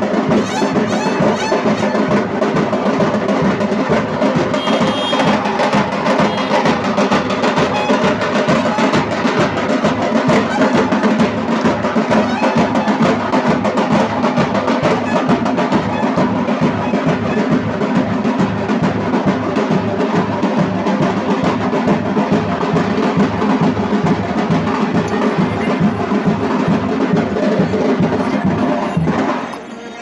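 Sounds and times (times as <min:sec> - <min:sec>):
fast loud drumming: 0:00.0 - 0:29.6.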